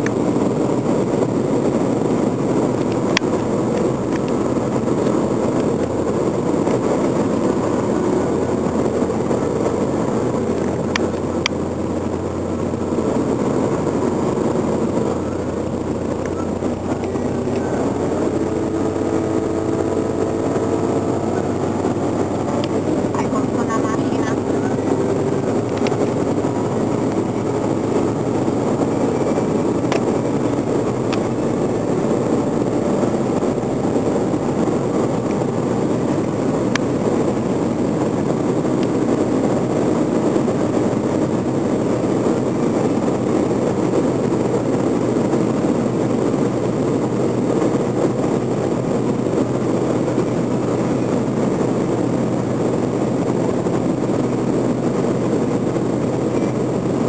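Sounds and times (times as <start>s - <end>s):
car cabin road drone: 0.0s - 57.0s
low steady hum: 0.0s - 57.0s.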